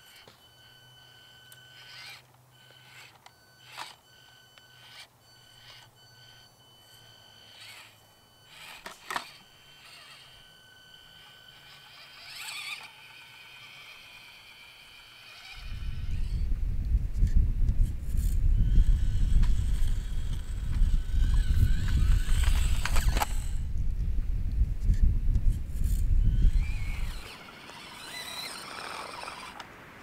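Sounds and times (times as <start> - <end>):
small electric motor whine: 0.0 - 29.7.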